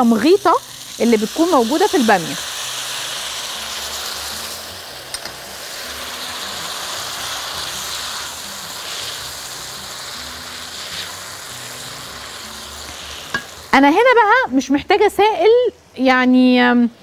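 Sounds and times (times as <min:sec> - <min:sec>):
vegetables sizzling in a wok: 0:00.0 - 0:16.9.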